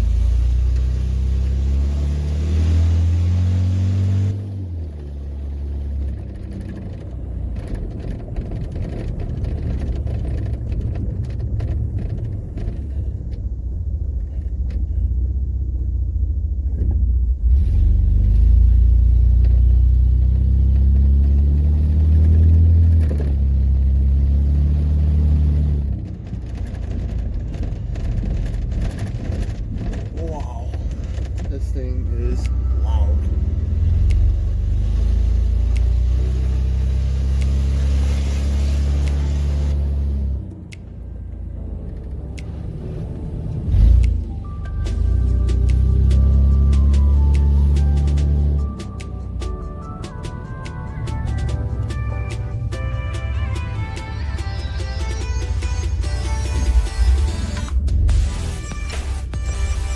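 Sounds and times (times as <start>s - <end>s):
truck engine deep rumble: 0.0s - 59.9s.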